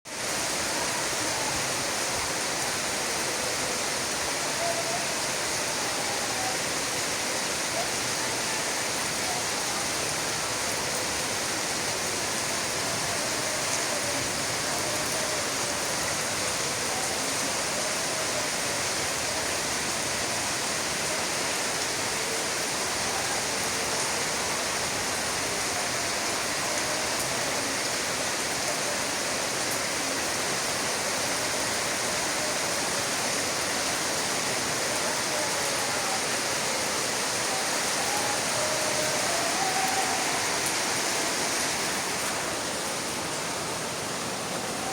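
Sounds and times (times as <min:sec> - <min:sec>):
rain falling: 0:00.1 - 0:44.9.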